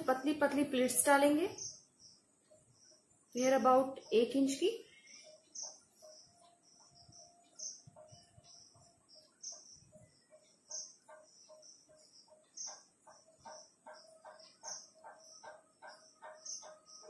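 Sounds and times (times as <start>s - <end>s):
insect-like chirping: 0.1s - 17.0s.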